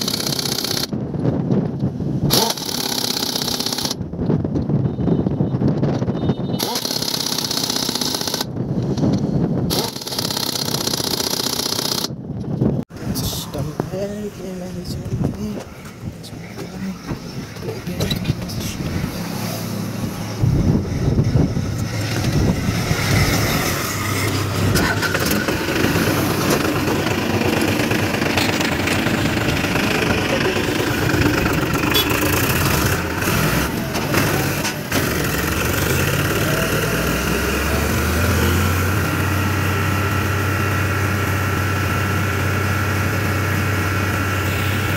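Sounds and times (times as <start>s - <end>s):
tractor diesel engine running: 0.0s - 1.3s, 6.6s - 9.1s, 9.7s - 12.3s, 12.9s - 44.9s.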